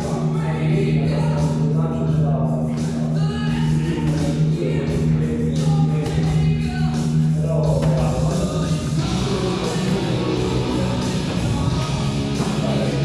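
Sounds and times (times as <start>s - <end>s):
loud music with singing: 0.0s - 13.0s.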